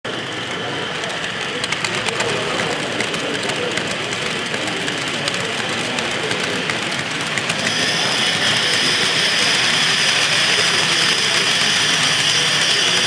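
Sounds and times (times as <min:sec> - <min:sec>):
model train running: 0:00.0 - 0:13.0
high steady whine: 0:00.1 - 0:13.0.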